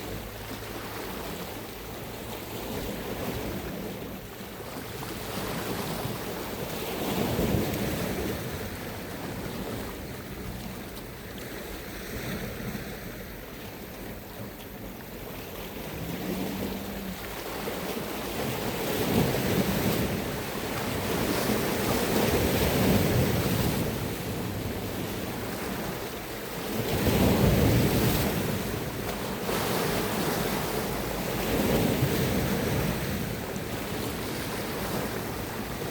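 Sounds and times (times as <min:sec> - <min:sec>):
sea waves breaking on shore: 0:00.0 - 0:35.9
wind buffeting microphone: 0:00.0 - 0:35.9.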